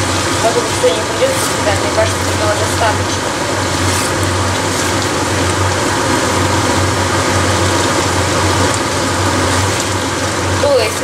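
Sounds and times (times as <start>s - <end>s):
continuous low hum: 0.0s - 11.0s
meat and vegetables sizzling: 0.0s - 11.0s.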